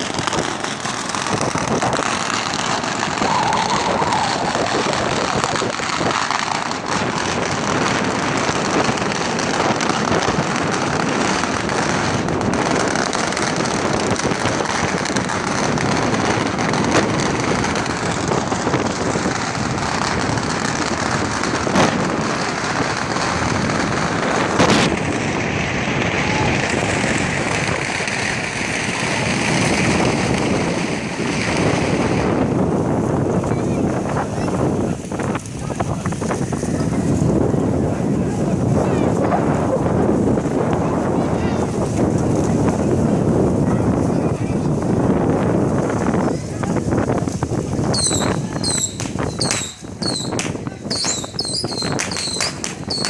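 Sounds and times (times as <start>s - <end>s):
firecrackers crackling: 0.0s - 53.0s.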